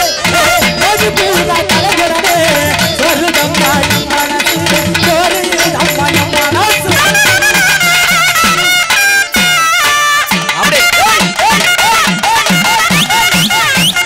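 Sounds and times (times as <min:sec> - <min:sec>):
drums fast beat: 0:00.0 - 0:14.0
higher melody: 0:00.0 - 0:14.0
wavering melody line: 0:00.0 - 0:14.0.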